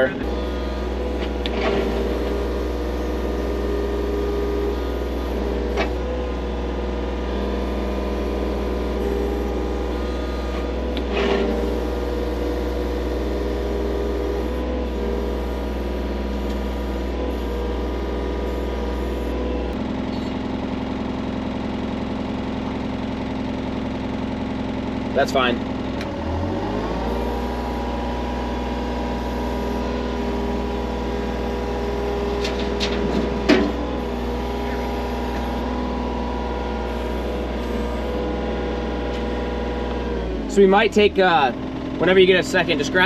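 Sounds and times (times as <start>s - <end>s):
loader engine running: 0.0s - 43.0s.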